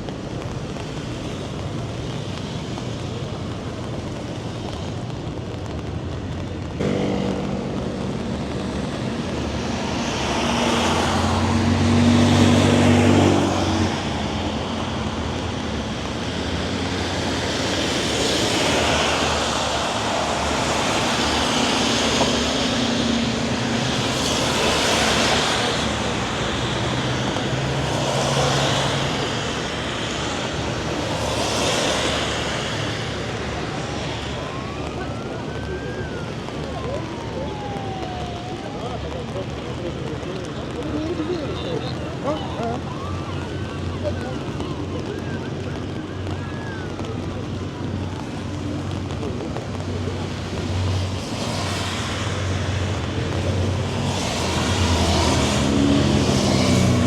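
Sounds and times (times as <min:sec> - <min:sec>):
heavy engine: 0:00.0 - 0:57.0
road traffic passing: 0:00.0 - 0:57.0.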